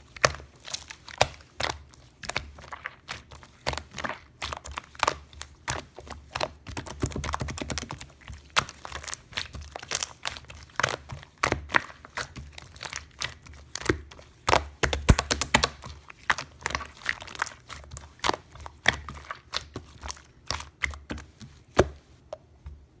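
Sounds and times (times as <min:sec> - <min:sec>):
crinkly material crackling: 0:00.0 - 0:22.2.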